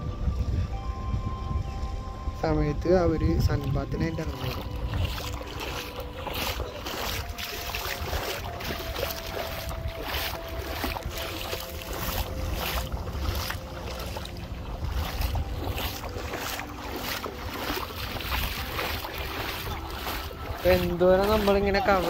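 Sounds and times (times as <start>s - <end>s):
wind buffeting microphone: 0.0s - 22.0s
seawater washing around: 3.2s - 22.0s.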